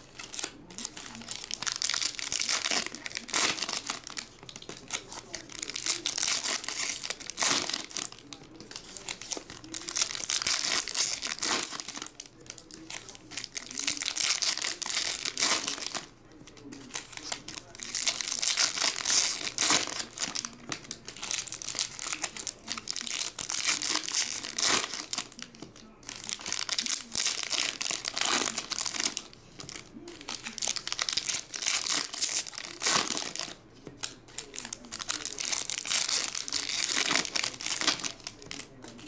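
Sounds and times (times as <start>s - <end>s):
foil wrappers crinkling and tearing: 0.0s - 39.0s.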